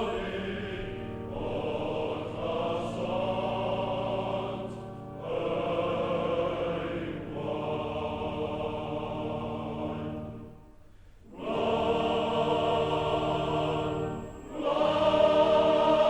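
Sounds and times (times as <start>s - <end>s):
choir singing long notes: 0.0s - 10.6s, 11.2s - 16.0s.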